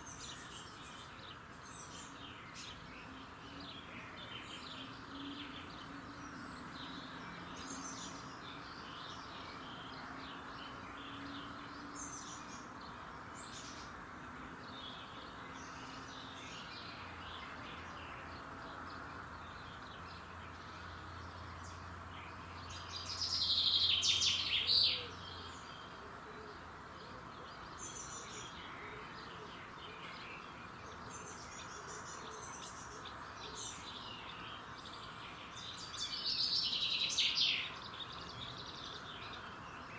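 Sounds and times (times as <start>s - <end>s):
birds singing and chirping: 0.0s - 14.0s, 14.6s - 39.9s
steady background hiss: 0.0s - 39.9s.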